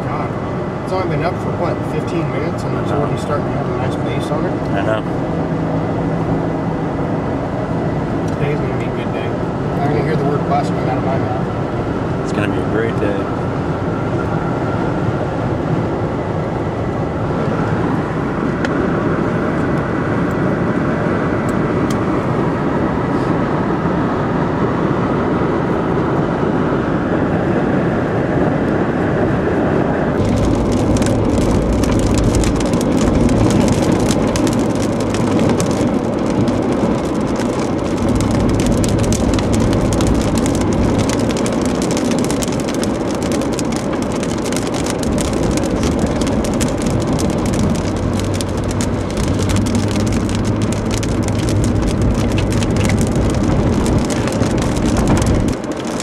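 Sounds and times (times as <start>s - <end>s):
rain pelting car: 0.0s - 29.2s, 30.1s - 56.0s
car road and engine noise: 0.0s - 56.0s.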